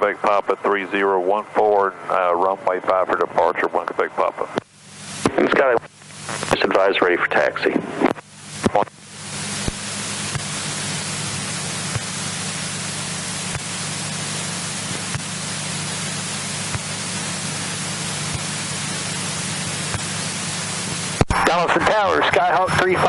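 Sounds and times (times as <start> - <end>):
aircraft cabin hiss and hum: 0.0 - 23.0.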